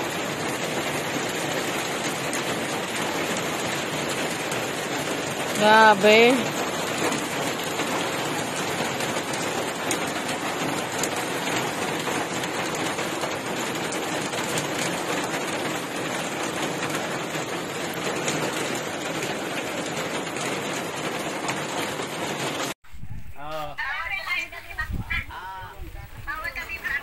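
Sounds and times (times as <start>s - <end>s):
heavy rain falling: 0.0s - 22.8s, 24.2s - 27.0s.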